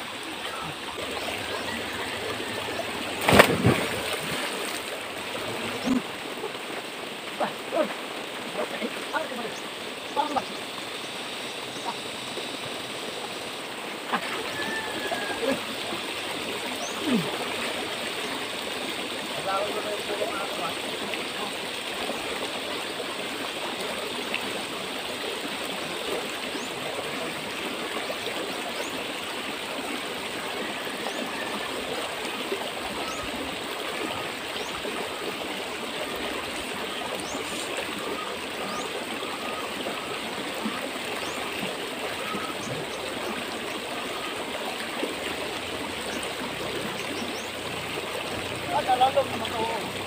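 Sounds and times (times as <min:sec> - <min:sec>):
river water flowing: 0:00.0 - 0:50.0.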